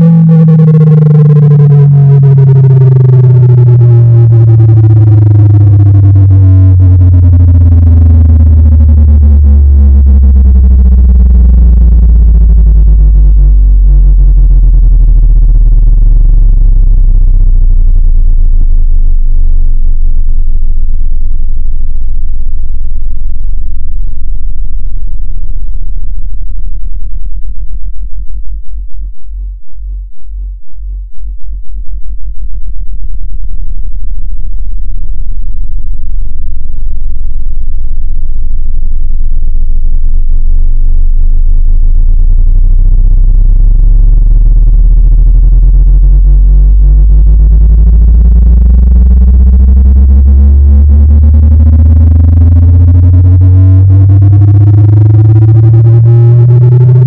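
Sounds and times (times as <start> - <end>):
low electronic tone buzzing: 0.0 - 57.0.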